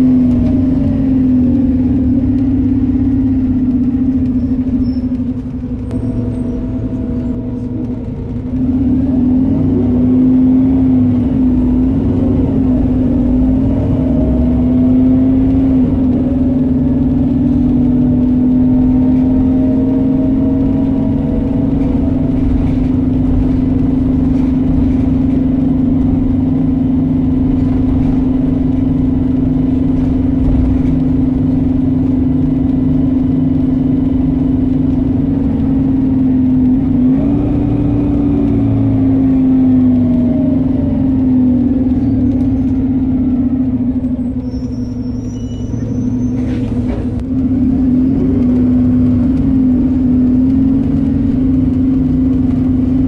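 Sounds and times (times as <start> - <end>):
rising whine: 0.0 - 52.9
bus diesel engine drone: 0.0 - 53.0.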